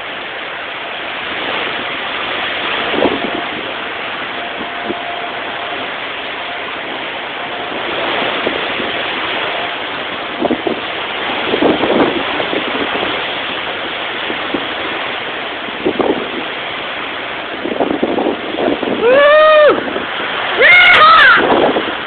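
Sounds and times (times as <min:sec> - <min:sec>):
driving rain: 0:00.0 - 0:22.0
hurricane wind: 0:00.0 - 0:22.0.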